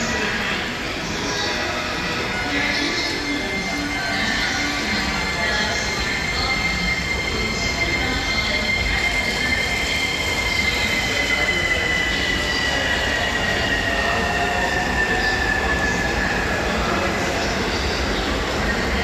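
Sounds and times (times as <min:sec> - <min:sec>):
electric train high tone: 0:00.0 - 0:19.0.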